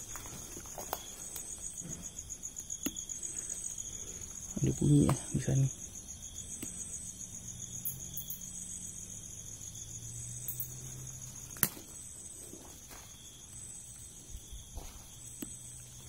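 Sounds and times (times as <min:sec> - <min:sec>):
crickets trilling: 0:00.0 - 0:16.0
insect call: 0:00.0 - 0:16.0.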